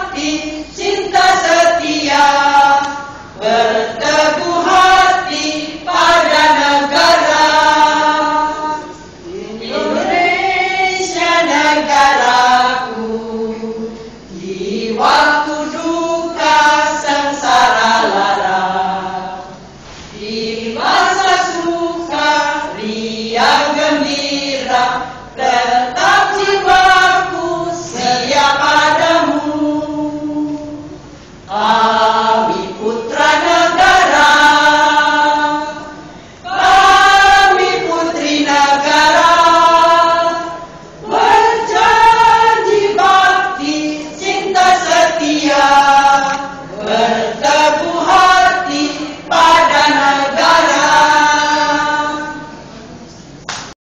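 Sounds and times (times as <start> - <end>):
women's choir singing: 0.0 - 53.4.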